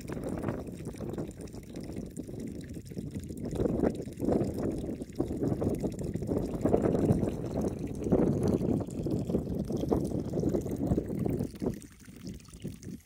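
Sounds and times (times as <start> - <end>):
water trickling into a tank: 0.0 - 13.0
wind buffeting microphone: 0.0 - 13.0.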